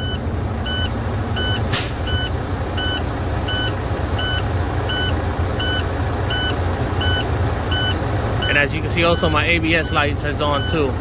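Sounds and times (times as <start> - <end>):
truck warning alarm beeping: 0.0 - 10.9
low engine rumble: 0.0 - 11.0.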